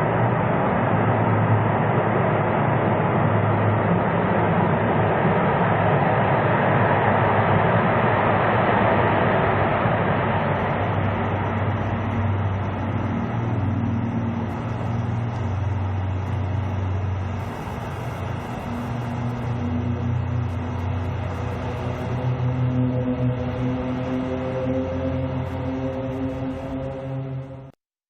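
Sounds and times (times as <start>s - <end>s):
jet engines rumbling: 0.0s - 27.7s
steady low drone: 0.0s - 27.8s.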